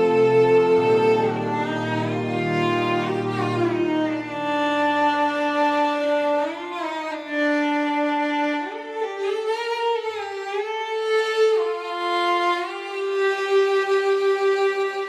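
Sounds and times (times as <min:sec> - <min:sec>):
low musical backing: 0:00.0 - 0:15.0
violin playing slow held notes: 0:00.0 - 0:15.0.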